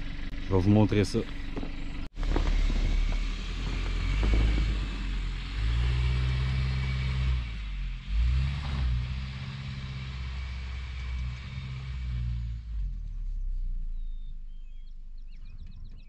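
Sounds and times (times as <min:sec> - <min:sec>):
suv engine under load: 0:00.0 - 0:16.0.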